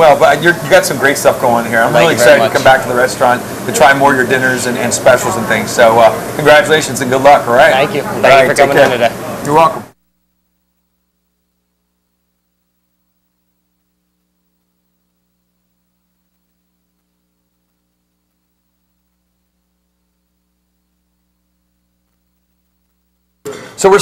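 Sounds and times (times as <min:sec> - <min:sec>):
faint steady hum: 0:00.0 - 0:24.0
low hiss: 0:00.0 - 0:24.0.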